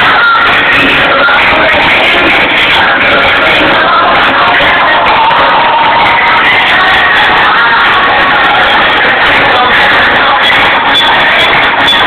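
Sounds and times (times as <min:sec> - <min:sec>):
loud music through speakers: 0:00.0 - 0:12.0.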